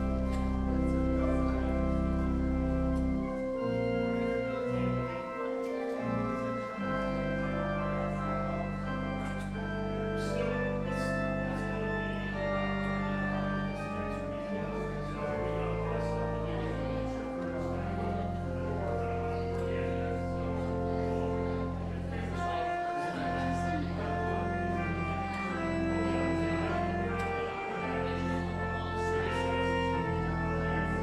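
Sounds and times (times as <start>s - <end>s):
church organ chords: 0.0s - 31.0s
deep organ bass notes: 0.0s - 31.0s.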